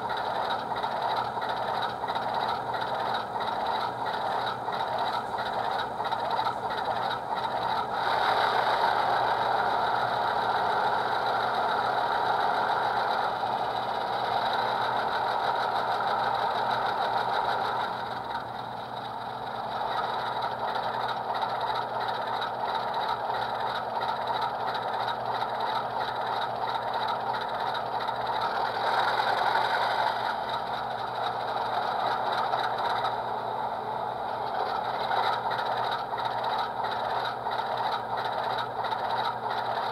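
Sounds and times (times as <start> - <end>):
model locomotive diesel engine sound: 0.0 - 39.9.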